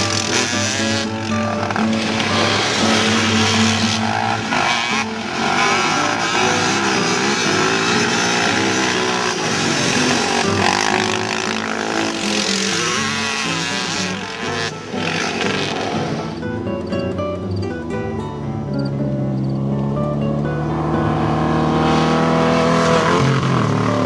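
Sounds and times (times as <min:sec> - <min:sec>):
quad and dirt bike engines revving: 0:00.0 - 0:24.0.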